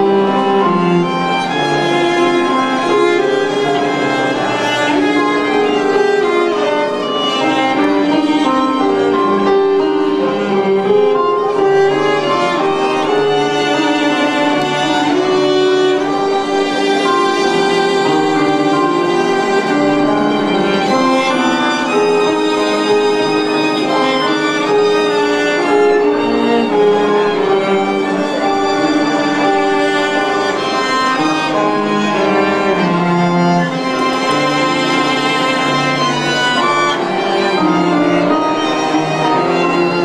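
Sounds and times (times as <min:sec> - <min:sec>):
lower accompanying line: 0:00.0 - 0:40.0
violin melody: 0:00.0 - 0:40.0.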